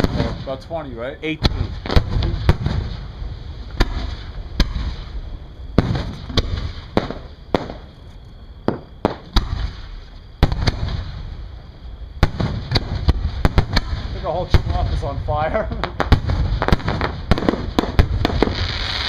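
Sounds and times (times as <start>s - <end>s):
fireworks bursting: 0.0s - 11.5s, 12.1s - 19.0s.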